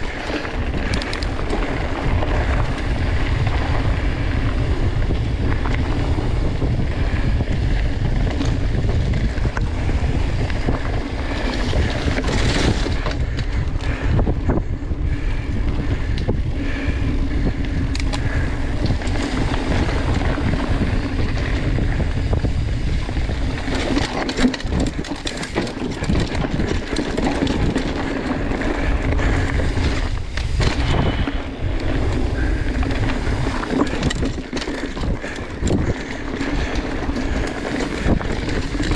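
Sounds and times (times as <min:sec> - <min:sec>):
bike rattling and knocking: 0:00.0 - 0:38.9
wind buffeting microphone: 0:00.0 - 0:38.9.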